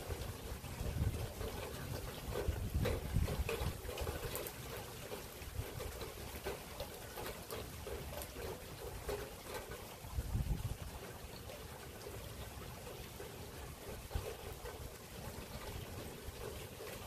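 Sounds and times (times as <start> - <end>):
drips and splashes: 0.0 - 17.0
steady rainfall: 0.0 - 17.0.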